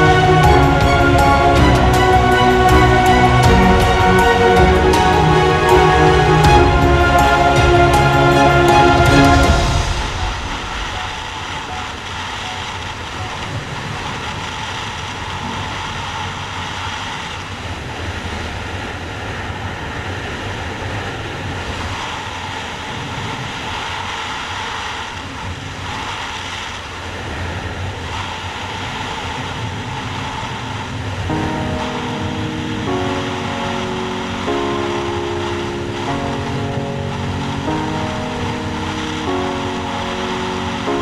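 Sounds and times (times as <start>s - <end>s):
road noise: 0.0s - 41.0s.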